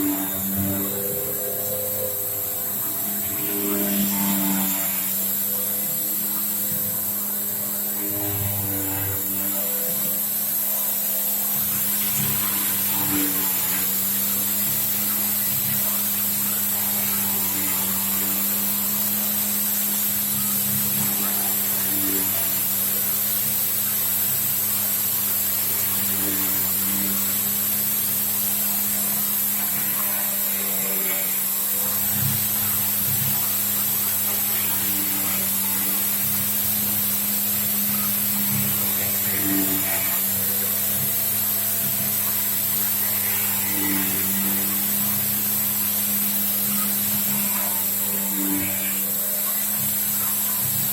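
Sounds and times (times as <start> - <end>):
milling machine cutting metal: 0.0 - 50.9.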